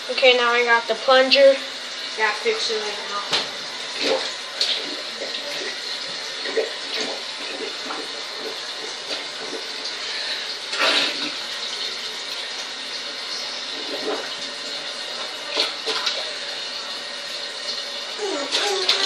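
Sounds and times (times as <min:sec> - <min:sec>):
water sloshing in toilet: 0:00.2 - 0:19.0.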